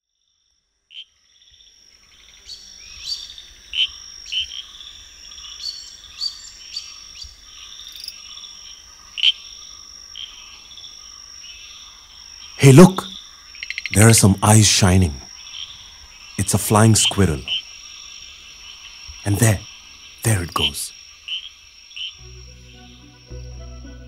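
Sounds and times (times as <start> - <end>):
frogs and insects chirping: 0.0 - 24.0
high insect trill: 0.2 - 24.0.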